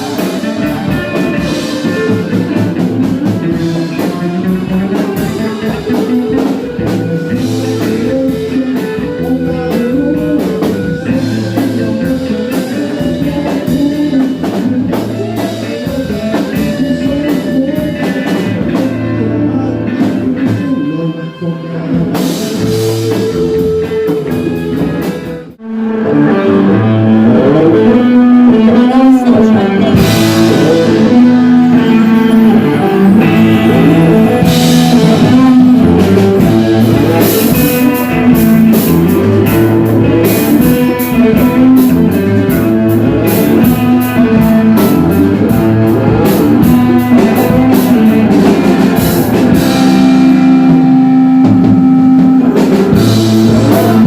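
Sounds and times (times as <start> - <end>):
rock music with guitar and drums: 0.0 - 54.0.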